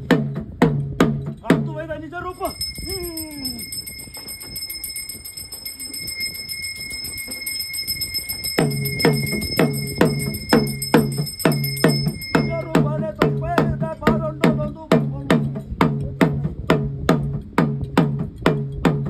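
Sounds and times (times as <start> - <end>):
hand drum booming: 0.0 - 1.8, 2.5 - 19.0.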